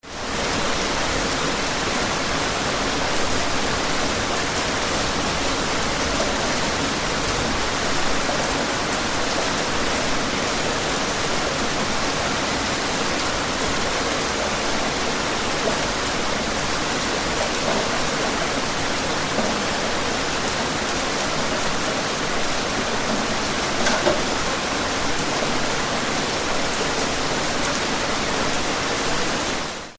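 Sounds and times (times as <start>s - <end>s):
louder rain spatters: 0.0s - 29.9s
steady rain falling: 0.0s - 29.9s.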